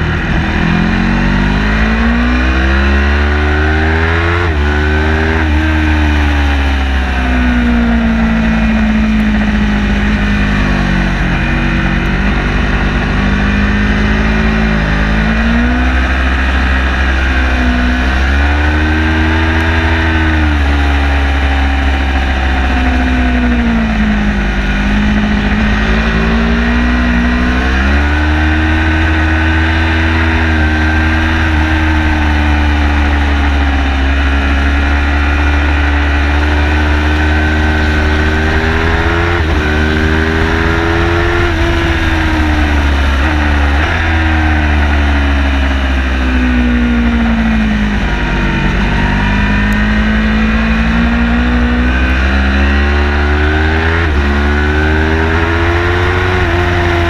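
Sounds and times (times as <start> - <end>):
steady low rumble: 0.0 - 2.8, 4.5 - 52.5
race car engine revving: 0.0 - 57.0.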